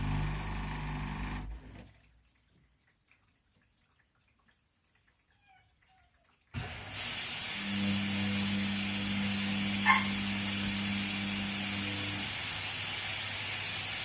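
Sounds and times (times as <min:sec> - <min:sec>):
water rushing into washing machine: 0:00.0 - 0:04.3, 0:05.8 - 0:14.0.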